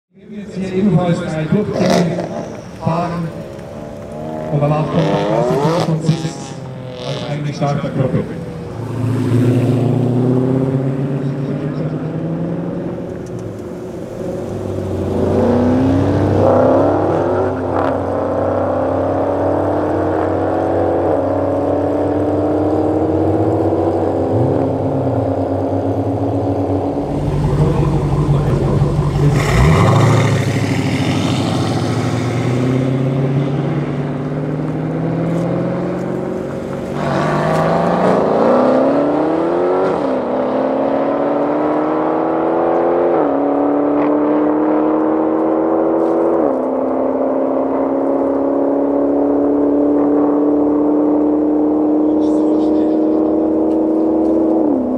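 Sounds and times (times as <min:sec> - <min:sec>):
car engine accelerating hard: 0:00.3 - 0:54.9.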